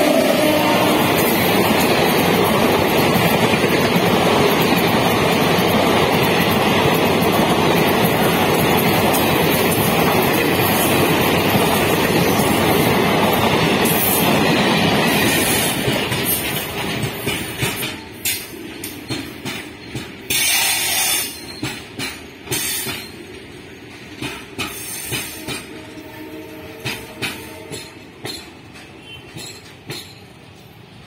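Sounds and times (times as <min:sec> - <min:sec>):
train wheels clicking over rail joints: 0:00.8 - 0:31.0.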